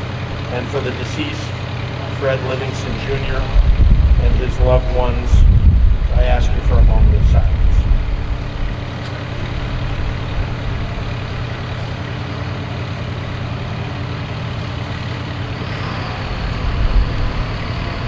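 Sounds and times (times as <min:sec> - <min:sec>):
heavy engine idling: 0:00.0 - 0:18.0.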